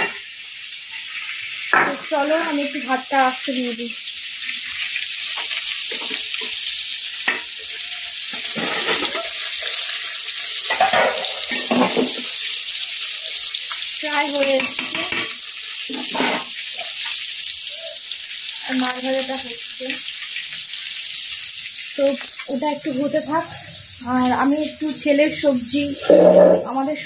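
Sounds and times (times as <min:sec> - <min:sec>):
fish sizzling in hot oil: 0:00.0 - 0:27.0.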